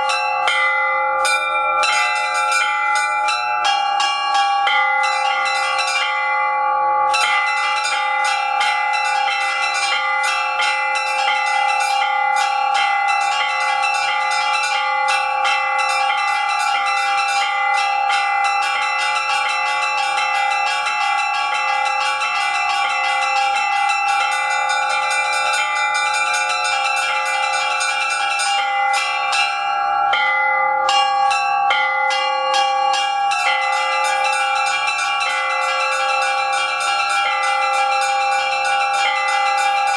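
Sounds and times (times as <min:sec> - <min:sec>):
large bells ringing hum: 0:00.0 - 0:39.9
small bells chiming: 0:00.0 - 0:39.9.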